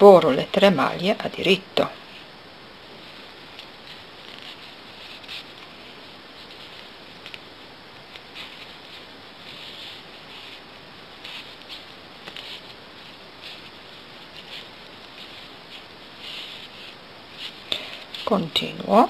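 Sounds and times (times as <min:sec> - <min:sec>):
wool rustling: 0:03.0 - 0:19.0.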